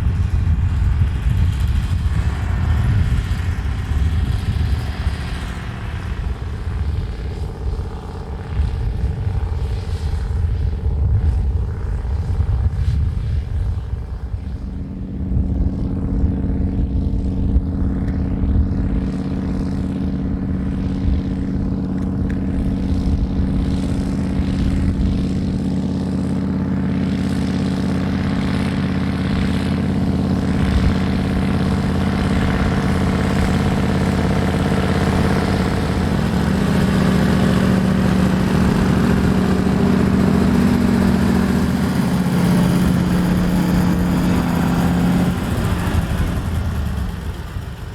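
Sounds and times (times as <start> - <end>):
tractor engine droning: 0.0 - 47.9.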